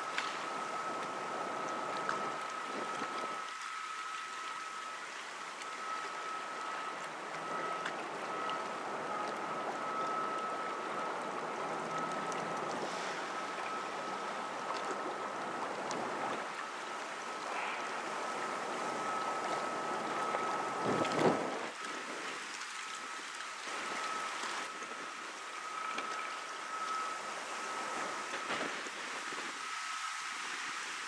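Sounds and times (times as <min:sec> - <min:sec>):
wind: 0:00.0 - 0:31.0.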